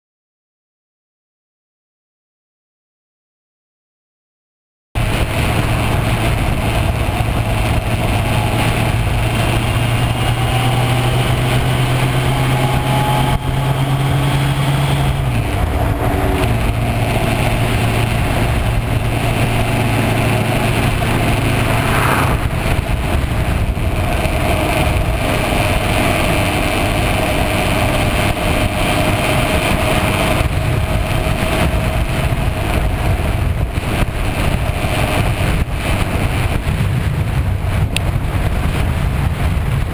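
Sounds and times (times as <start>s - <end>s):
motorcycle engine running: 5.0s - 39.9s
steady rushing noise: 5.0s - 39.9s.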